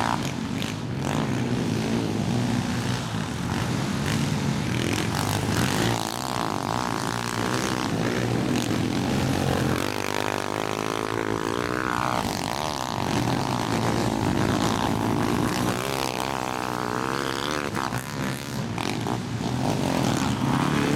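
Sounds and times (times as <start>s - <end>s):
motorbike engines revving: 0.0s - 20.9s.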